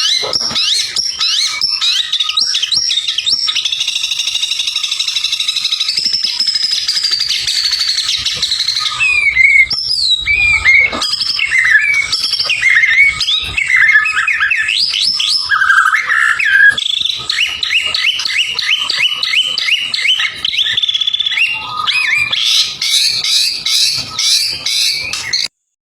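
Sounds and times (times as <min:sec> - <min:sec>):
bird singing: 0:00.0 - 0:25.5.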